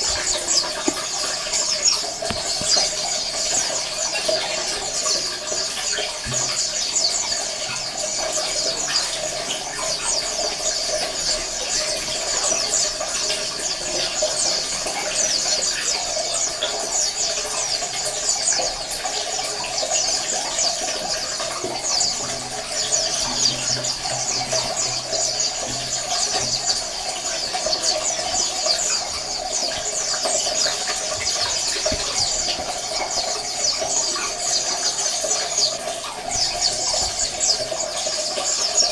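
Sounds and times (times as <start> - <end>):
birds chirping in dense chatter: 0.0 - 38.9.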